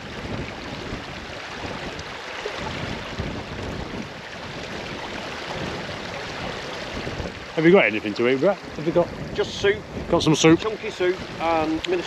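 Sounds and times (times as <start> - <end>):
wind gusting across microphone: 0.0 - 12.0.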